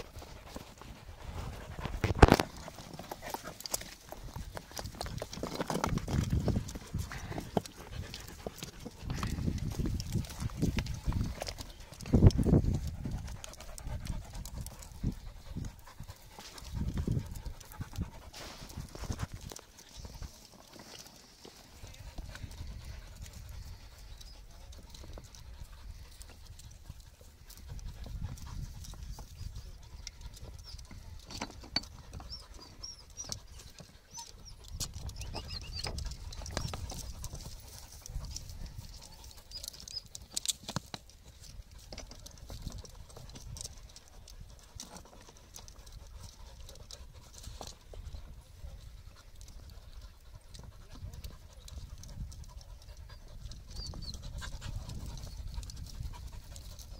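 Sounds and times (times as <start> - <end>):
dog panting: 0.0 - 40.6, 41.8 - 56.9
paws scrabbling on loose rocks: 0.0 - 56.9.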